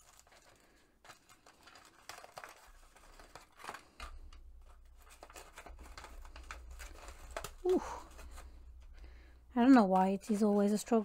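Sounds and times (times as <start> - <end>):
paper pouch rustling: 0.0 - 9.0.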